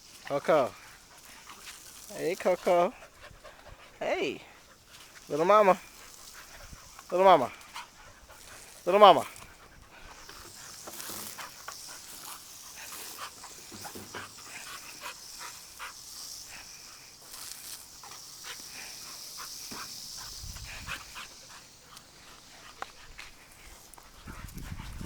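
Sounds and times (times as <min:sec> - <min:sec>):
faint high hiss: 0:00.0 - 0:24.5
dogs scratching and scuffling: 0:00.1 - 0:18.8, 0:19.4 - 0:25.0.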